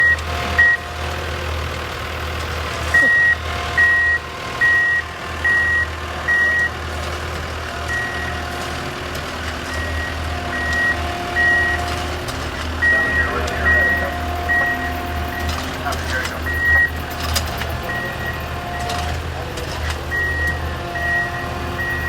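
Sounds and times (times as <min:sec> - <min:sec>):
reversing alarm beeping: 0:00.0 - 0:01.0, 0:02.7 - 0:07.0, 0:07.8 - 0:22.0
low engine rumble: 0:00.0 - 0:22.0.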